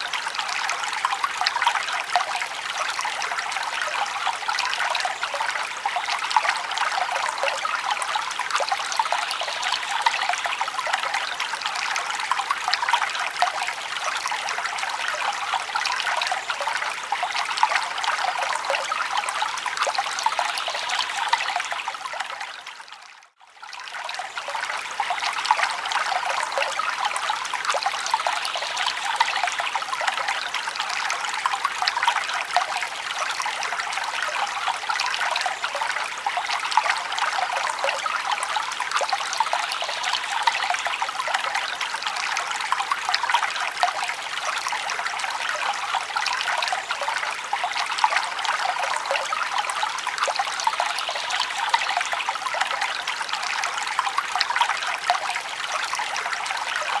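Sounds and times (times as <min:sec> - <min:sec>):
stream babbling and trickling: 0:00.0 - 0:57.0.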